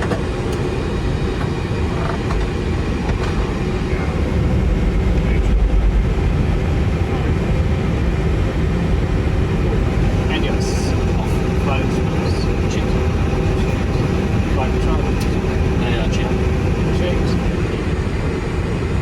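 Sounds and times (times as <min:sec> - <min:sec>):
airliner cockpit rumble: 0:00.0 - 0:19.0.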